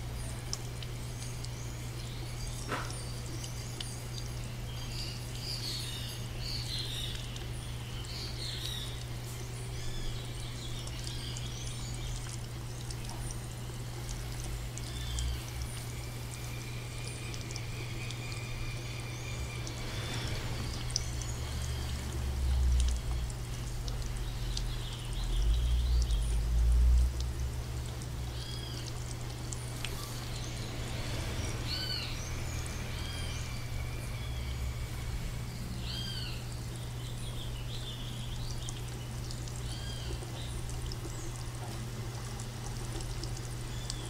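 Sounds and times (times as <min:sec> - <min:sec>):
birds chirping: 0:00.0 - 0:26.8, 0:27.8 - 0:44.0
running water: 0:00.0 - 0:44.0.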